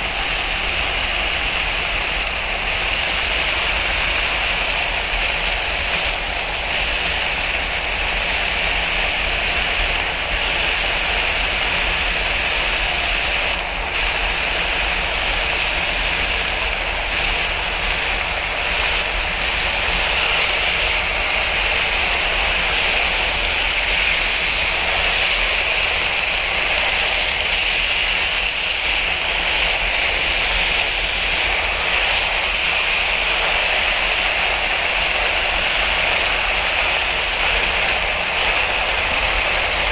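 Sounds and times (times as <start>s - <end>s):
vegetables sizzling in a hot pan: 0.0s - 39.9s.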